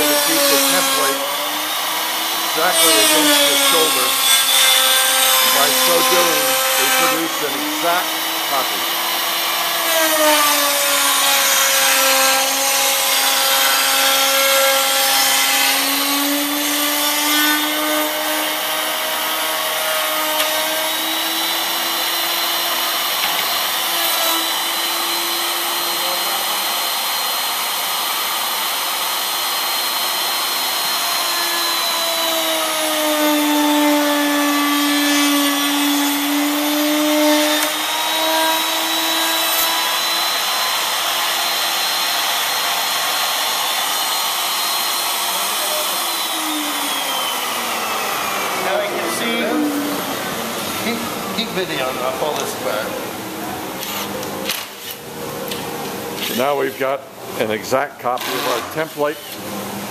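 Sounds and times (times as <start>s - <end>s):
router motor cutting wood: 0.0s - 57.4s, 58.0s - 59.9s.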